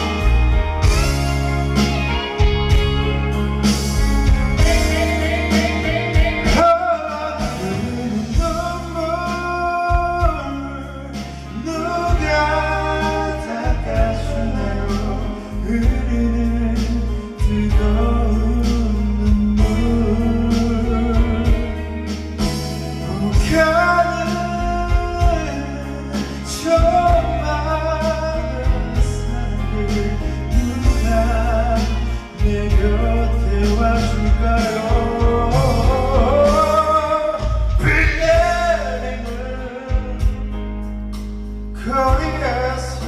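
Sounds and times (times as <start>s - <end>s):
drums and bass: 0.0s - 43.0s
wordless singing with vibrato: 0.0s - 43.0s.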